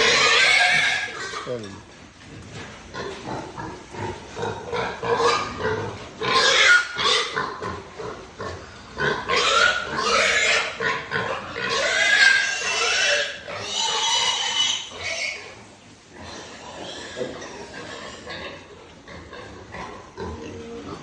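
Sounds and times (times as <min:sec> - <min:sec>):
pigs squealing and grunting: 0:00.0 - 0:21.0.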